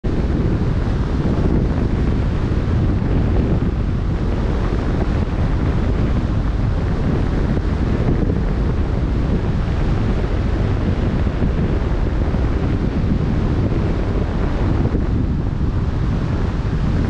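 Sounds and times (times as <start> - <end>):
wind buffeting microphone: 0.0 - 17.0
choppy waves washing: 0.1 - 17.0.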